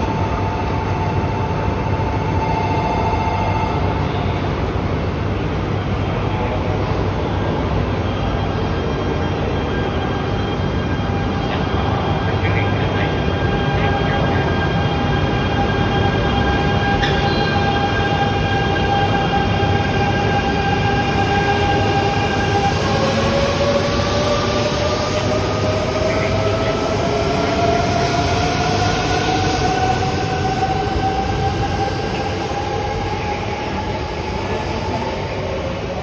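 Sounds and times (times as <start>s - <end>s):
train rolling noise: 0.0s - 36.0s.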